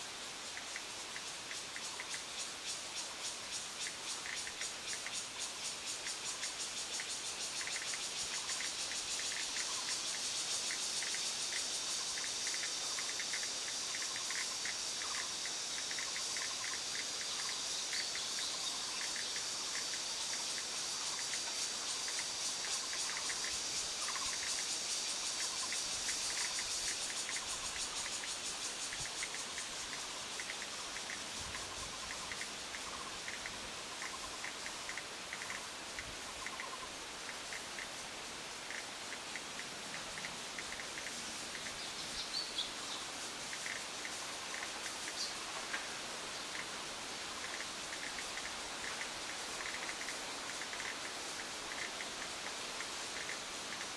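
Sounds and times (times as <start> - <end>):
cicada buzzing: 0.0 - 53.9
insect chirping: 0.0 - 53.9.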